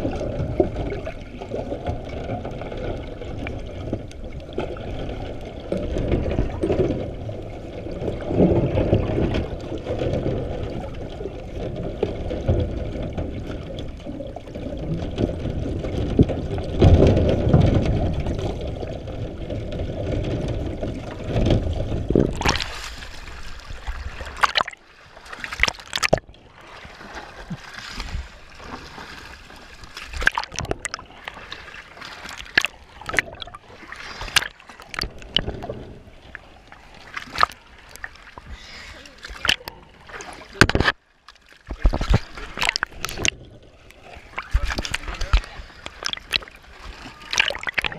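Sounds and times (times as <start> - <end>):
muffled underwater rumble: 0.0 - 24.7, 32.5 - 40.9, 41.7 - 47.9
water splashing against bars: 0.0 - 47.9.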